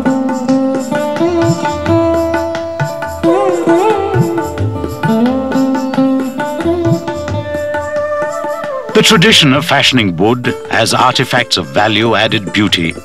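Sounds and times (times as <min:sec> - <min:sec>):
tabla strokes: 0:00.0 - 0:13.0.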